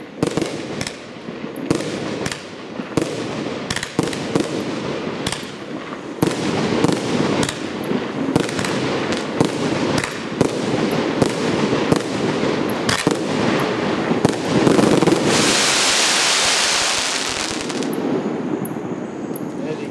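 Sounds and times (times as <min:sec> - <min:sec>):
firework crackling hiss: 0:00.0 - 0:19.9
firework shells firing: 0:00.2 - 0:18.8.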